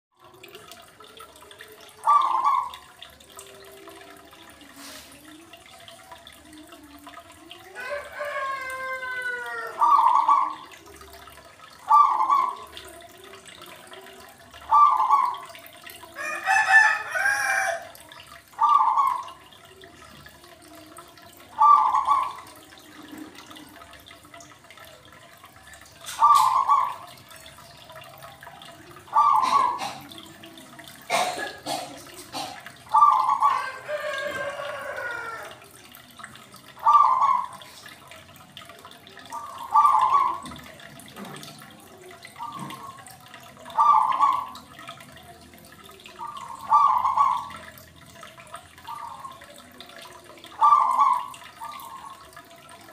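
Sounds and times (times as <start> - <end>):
faint trickle of water: 0.1 - 52.9.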